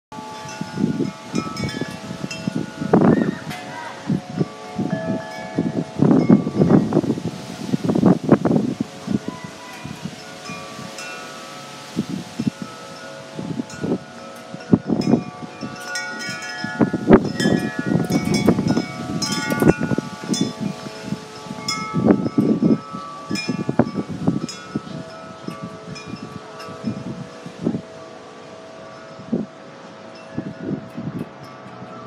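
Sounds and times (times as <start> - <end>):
wind chimes ringing: 0.1 - 32.0
wind rumbling on microphone: 0.1 - 32.0.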